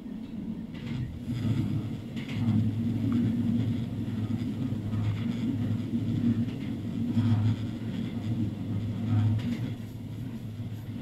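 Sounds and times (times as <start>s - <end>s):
railcar low hum: 0.0s - 11.0s
wheel-on-rail rumble: 0.0s - 11.0s.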